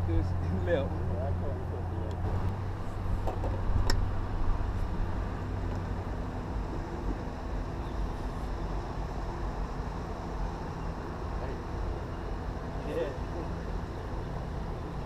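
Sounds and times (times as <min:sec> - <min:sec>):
engine humming: 0:00.0 - 0:15.0
road or water noise: 0:00.0 - 0:15.0.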